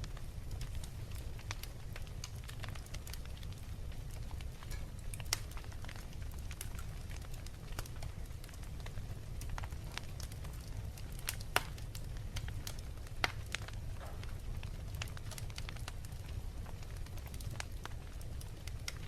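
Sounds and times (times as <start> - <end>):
fireplace fire crackling: 0.0 - 19.0
low fire rumble: 0.0 - 19.0
sharp pops of fire: 0.1 - 19.0.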